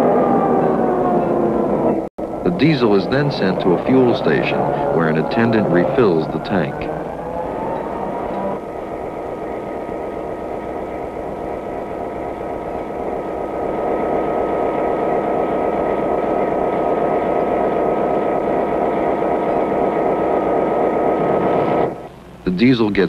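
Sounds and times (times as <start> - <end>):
diesel locomotive drone: 0.0 - 23.0
thin steady whine: 0.0 - 23.0.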